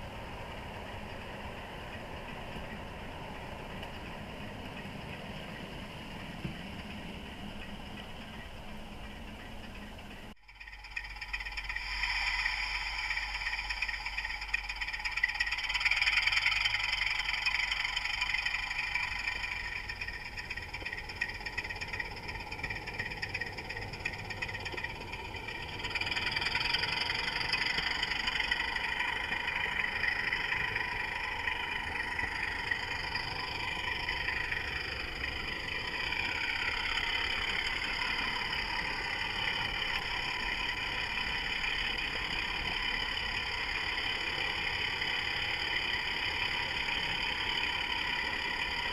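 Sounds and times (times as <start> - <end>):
model train running on track: 0.0 - 48.9.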